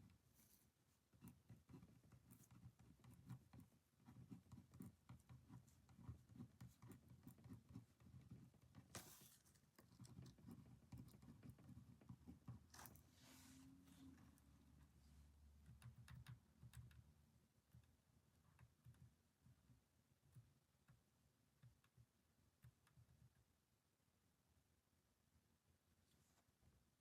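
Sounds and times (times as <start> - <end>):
light tapping and scratching at desk: 0.0 - 23.6.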